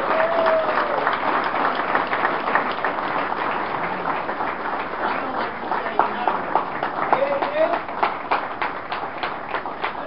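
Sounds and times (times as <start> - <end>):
audience clapping: 0.0 - 10.0.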